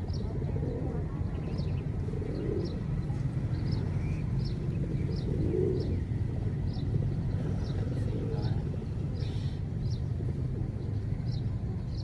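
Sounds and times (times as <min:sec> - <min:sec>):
pigeons cooing: 0:00.0 - 0:12.0
steady low rumble: 0:00.0 - 0:12.0.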